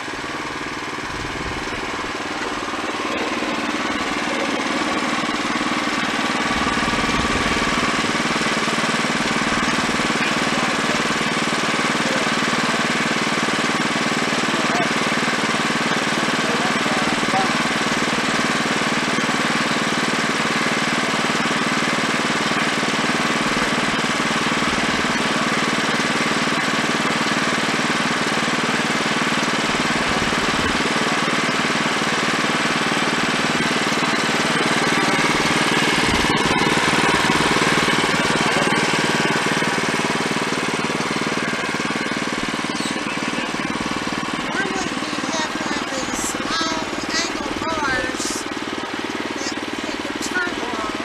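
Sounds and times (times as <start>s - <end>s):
bandsaw mill engine under load: 0.0s - 51.0s.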